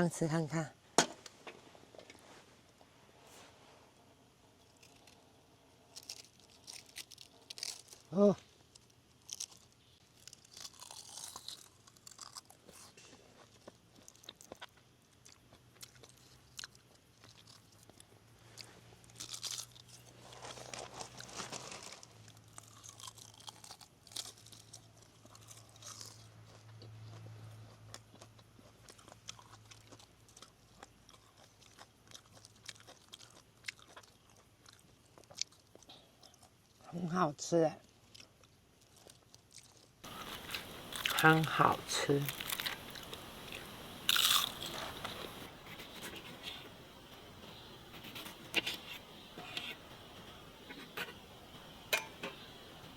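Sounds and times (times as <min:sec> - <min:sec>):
crunching and chewing food: 0:04.4 - 0:37.0, 0:37.8 - 0:52.9.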